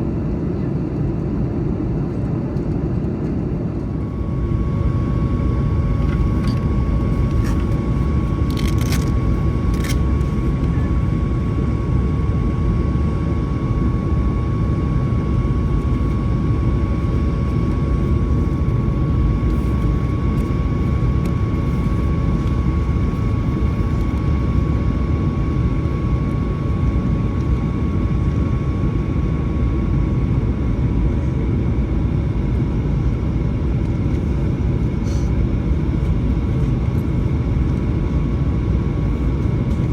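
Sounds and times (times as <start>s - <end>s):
airplane cabin rumble: 0.0s - 39.9s
steady whine: 0.0s - 39.9s.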